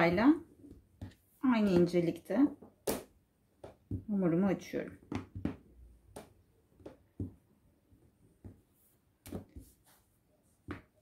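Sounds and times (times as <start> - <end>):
rolling pin knocks and taps: 0.1 - 4.1, 4.9 - 9.7.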